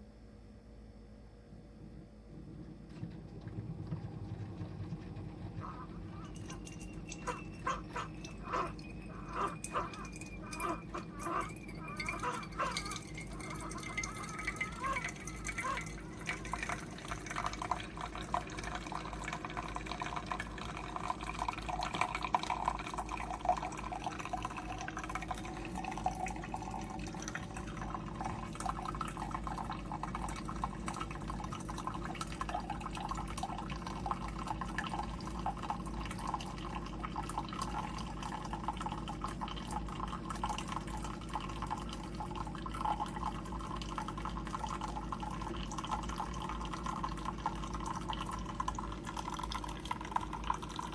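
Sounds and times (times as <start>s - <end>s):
coffee pouring into a cup: 2.9s - 50.9s.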